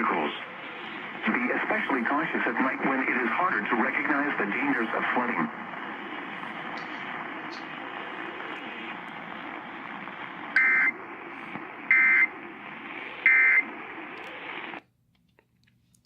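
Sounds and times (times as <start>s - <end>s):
bursts of data tones: 0.0s - 14.8s
steady radio hiss: 0.0s - 14.8s.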